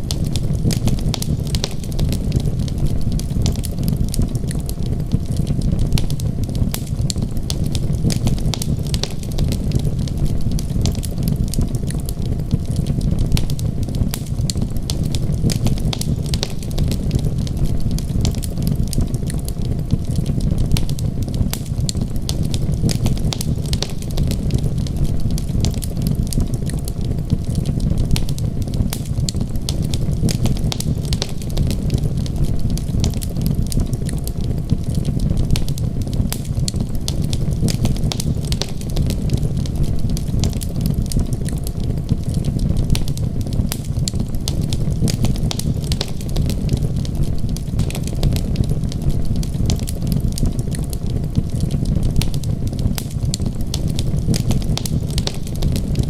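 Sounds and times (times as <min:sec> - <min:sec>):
low rumble: 0:00.0 - 0:56.0
wood fire crackling: 0:00.0 - 0:56.0.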